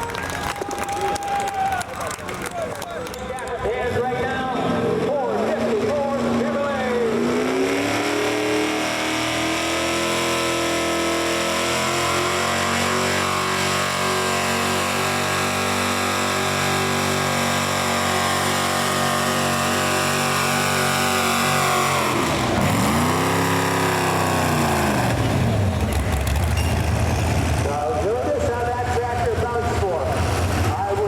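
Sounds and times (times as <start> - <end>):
truck engine running hard: 0.0 - 31.0.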